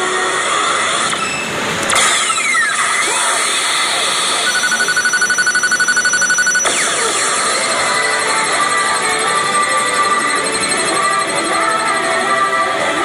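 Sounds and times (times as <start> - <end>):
steady noise: 0.0 - 13.0
fast-pulsing beep: 1.1 - 12.5.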